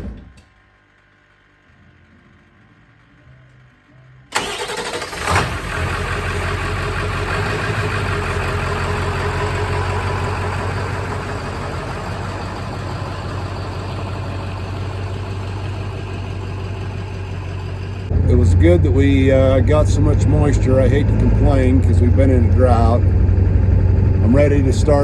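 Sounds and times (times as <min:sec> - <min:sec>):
diesel engine cranking and idling: 0:04.3 - 0:25.0.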